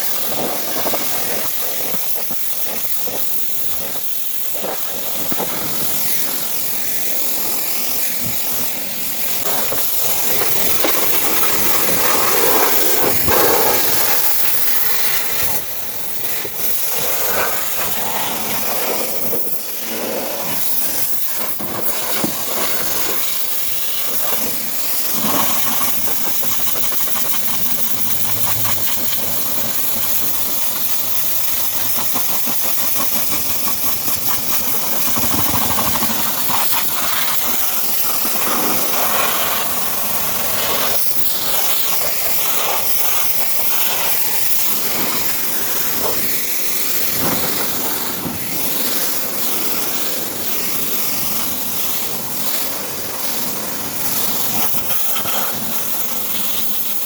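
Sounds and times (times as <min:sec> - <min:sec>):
pressure washer spray hissing: 0:00.0 - 0:57.0.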